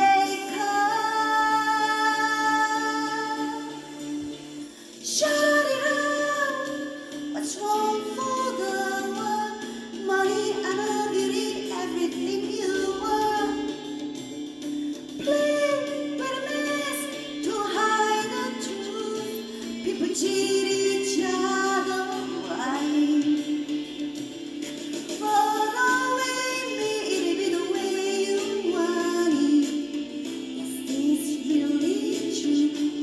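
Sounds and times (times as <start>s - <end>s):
woman singing a slow ballad: 0.0s - 14.2s, 15.2s - 24.3s, 25.1s - 33.0s.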